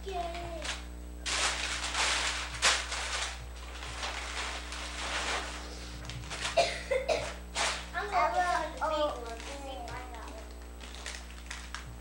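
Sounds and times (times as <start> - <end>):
low hum of video recording: 0.0 - 12.0
rustling and crinkling of stocking: 0.1 - 12.0.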